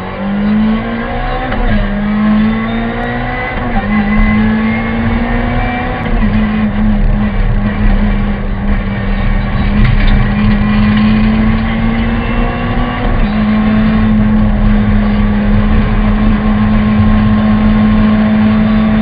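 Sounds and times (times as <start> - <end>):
car engine revving high: 0.0 - 19.0.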